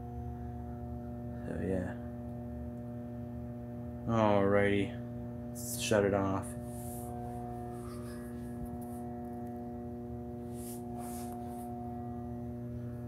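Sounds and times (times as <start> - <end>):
flood light electrical hum: 0.0 - 13.0
loose housing vibrating: 0.0 - 13.0.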